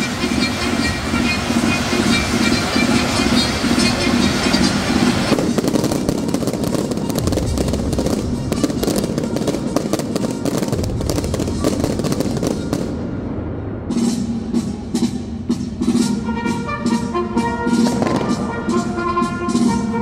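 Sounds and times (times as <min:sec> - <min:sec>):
fireworks crackling and popping: 0:00.0 - 0:13.0, 0:16.8 - 0:20.0
music: 0:00.0 - 0:20.0.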